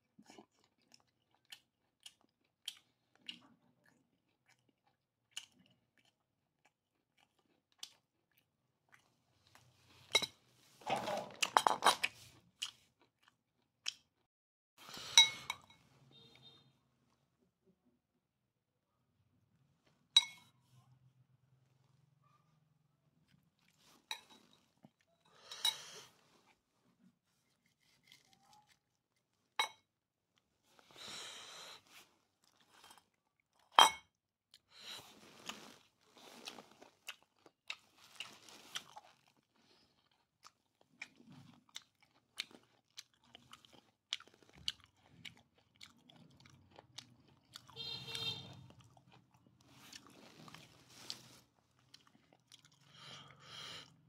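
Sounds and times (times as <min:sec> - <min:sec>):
chewing and crunching food: 0:00.0 - 0:16.6, 0:23.1 - 0:54.0.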